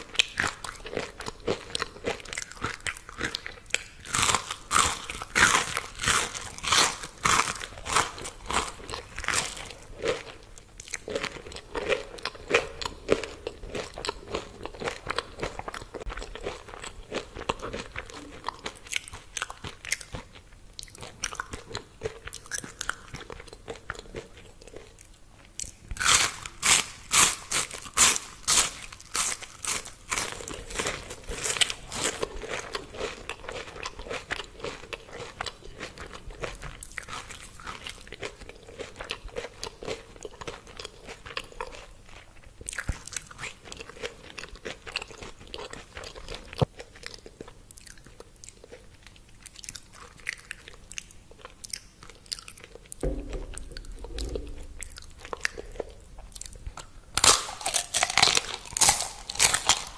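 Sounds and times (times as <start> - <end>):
crunchy food being chewed: 0.0 - 59.9.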